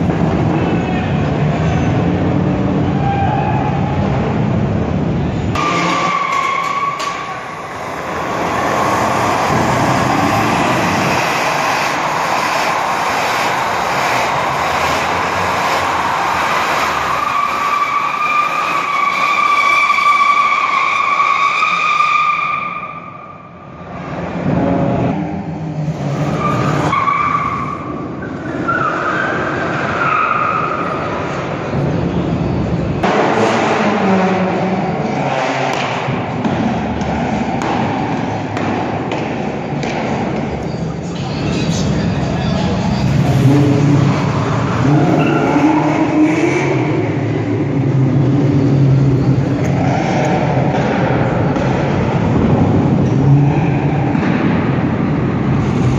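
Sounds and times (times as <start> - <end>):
car tyres squealing: 0.0 - 4.5, 5.1 - 55.9
car engines revving: 0.0 - 55.9.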